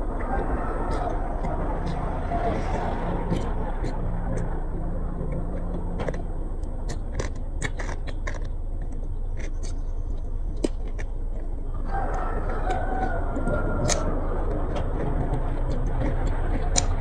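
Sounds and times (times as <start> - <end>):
chewing crunchy food: 0.0 - 17.0
low background rumble: 0.0 - 17.0.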